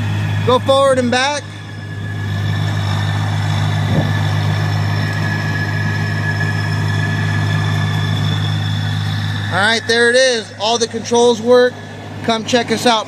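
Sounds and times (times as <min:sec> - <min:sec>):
diesel engine running: 0:00.0 - 0:13.0
high-pitched whine: 0:00.0 - 0:13.0.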